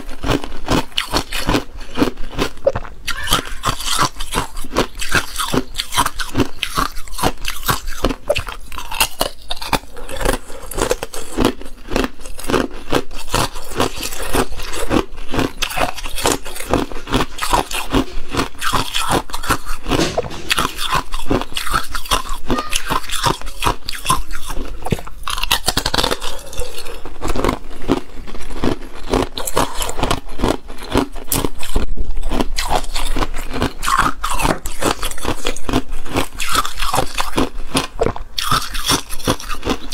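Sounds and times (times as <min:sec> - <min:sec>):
ice cubes crunching: 0:00.0 - 0:20.0, 0:20.7 - 0:39.9.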